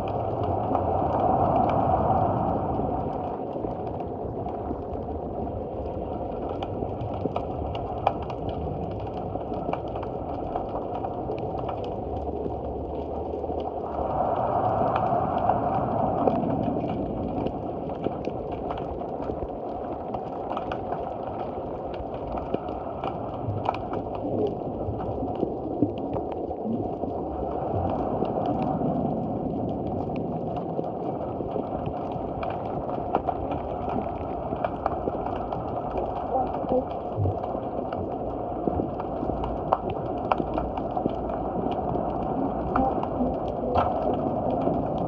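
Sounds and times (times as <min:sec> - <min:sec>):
sharp clicks and crackles: 0:00.0 - 0:45.0
underwater rush of water: 0:00.0 - 0:45.0.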